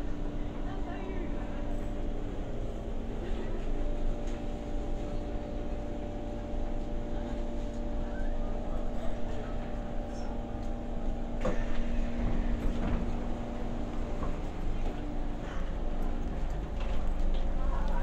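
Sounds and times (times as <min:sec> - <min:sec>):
train cabin rumble and hum: 0:00.0 - 0:18.0.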